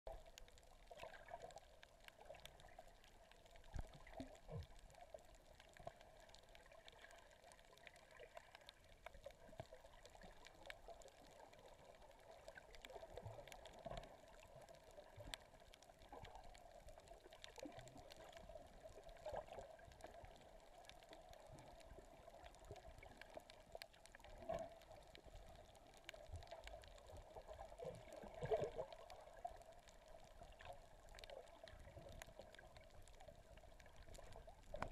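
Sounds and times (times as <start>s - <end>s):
muffled underwater wash: 0.1s - 34.9s
small clicks: 0.1s - 34.9s.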